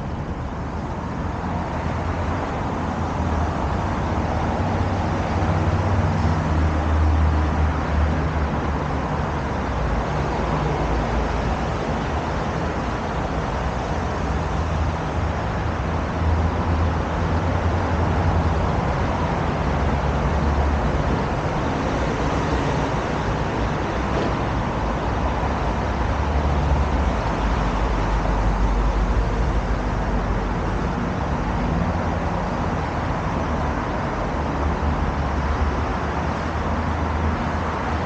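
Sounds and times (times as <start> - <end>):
low rumble of passing vehicles: 0.0 - 38.0
road traffic rushing: 0.0 - 38.0.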